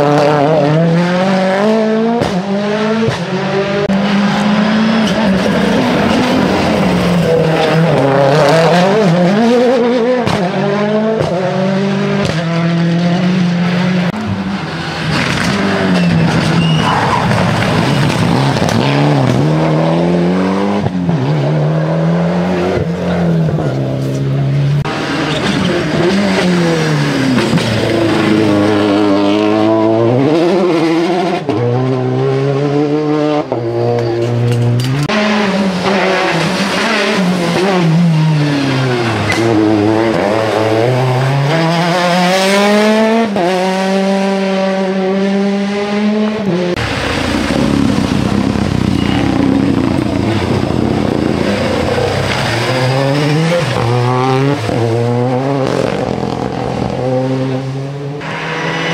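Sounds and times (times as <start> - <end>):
rally car engines at full throttle: 0.0 - 58.9.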